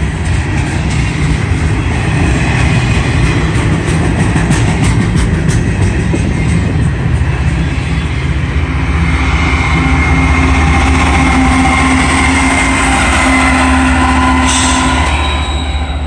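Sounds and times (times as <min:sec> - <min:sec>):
locomotive engine drone: 0:00.0 - 0:16.0
wheels rumbling on rail: 0:00.0 - 0:16.0.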